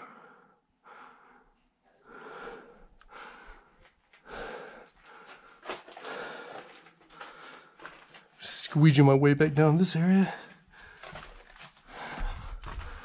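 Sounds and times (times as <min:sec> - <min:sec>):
person breathing hard: 0:00.0 - 0:08.3, 0:10.2 - 0:13.0.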